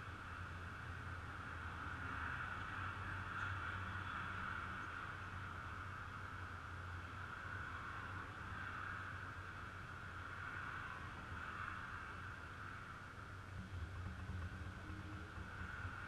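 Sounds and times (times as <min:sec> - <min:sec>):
constant hiss: 0:00.0 - 0:16.0.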